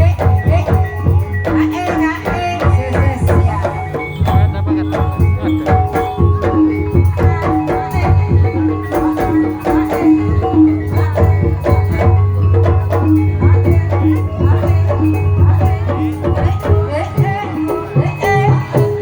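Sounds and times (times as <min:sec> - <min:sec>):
steady drumming: 0:00.0 - 0:19.0
struck pitched percussion: 0:00.0 - 0:19.0.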